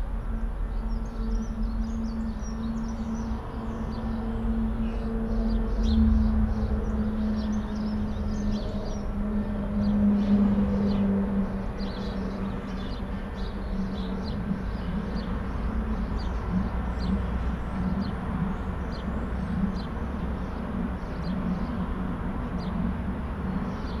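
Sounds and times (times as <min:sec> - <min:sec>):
heavy machinery rumble and hum: 0:00.0 - 0:24.0.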